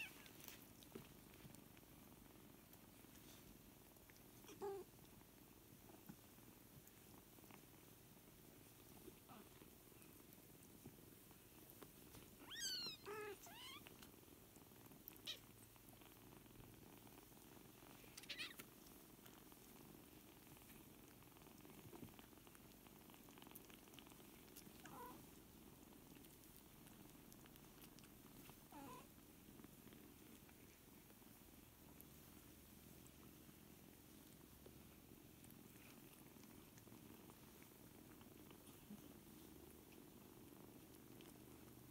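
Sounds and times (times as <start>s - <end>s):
cats purring: 0.0s - 41.9s.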